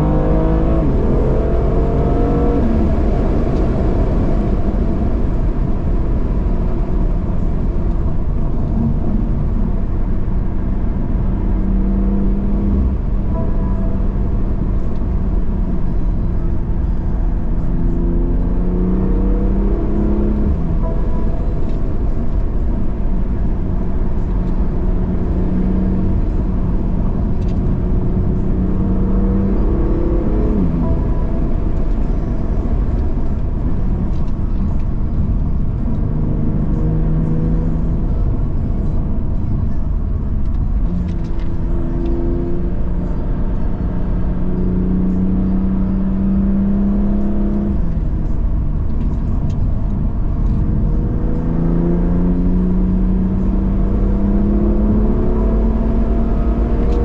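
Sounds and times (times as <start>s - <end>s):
low rumble: 0.0s - 56.8s
car engine revving: 0.0s - 57.0s.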